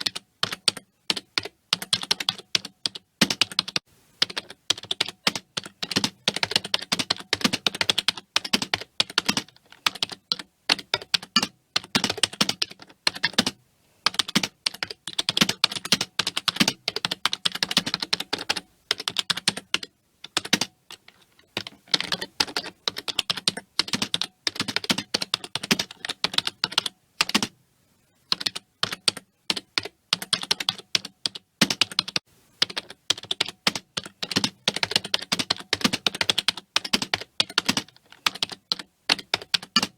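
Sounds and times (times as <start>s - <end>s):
keyboard typing: 0.0s - 27.6s, 28.3s - 39.9s.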